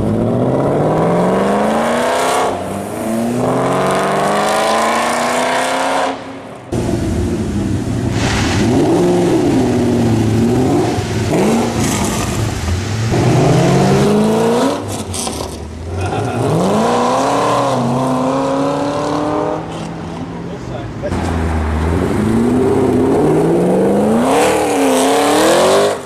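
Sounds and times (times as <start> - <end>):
car engine revving: 0.0 - 20.3, 21.0 - 26.0.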